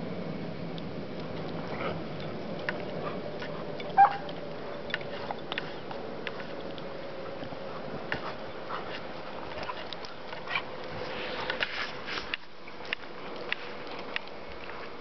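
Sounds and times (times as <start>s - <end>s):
dogs snuffling and mouthing: 1.2s - 15.0s
dogs scuffling in snow: 1.4s - 13.8s.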